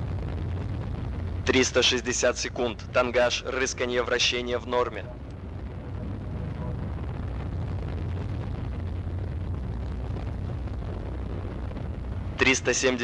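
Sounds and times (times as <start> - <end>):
rocket engine low rumble: 0.0 - 13.0.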